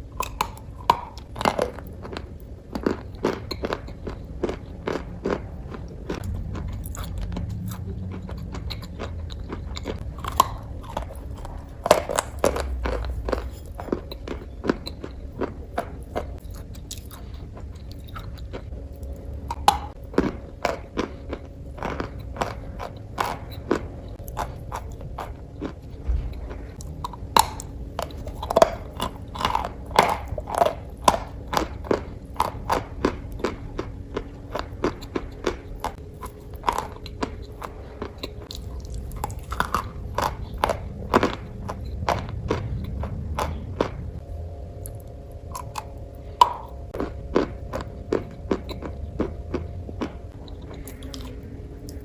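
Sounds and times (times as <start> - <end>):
crisp crunching: 0.0 - 52.0.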